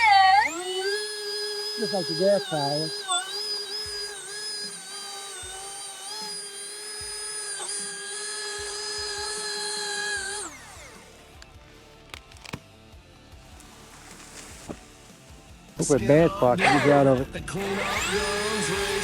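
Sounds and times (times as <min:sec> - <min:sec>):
electric chainsaw whining: 0:00.0 - 0:19.0.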